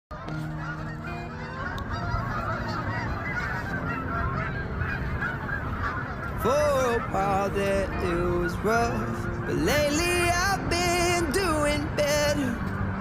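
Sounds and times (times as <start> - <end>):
flock of geese honking: 0.1 - 13.0.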